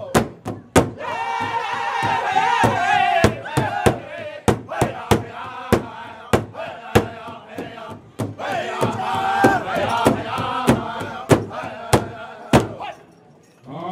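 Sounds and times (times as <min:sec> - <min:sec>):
big hand drum beat: 0:00.1 - 0:12.8
men singing in chorus: 0:01.4 - 0:13.0.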